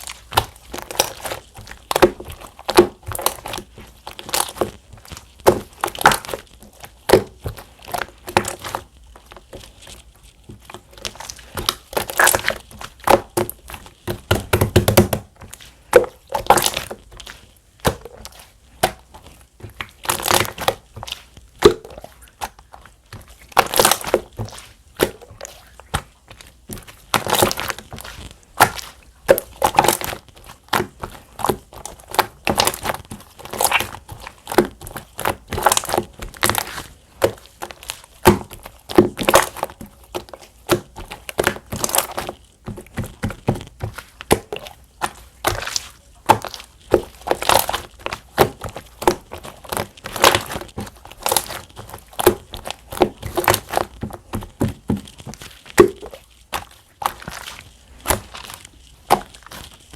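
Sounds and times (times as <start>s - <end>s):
slime squishing and popping: 0.0s - 59.9s.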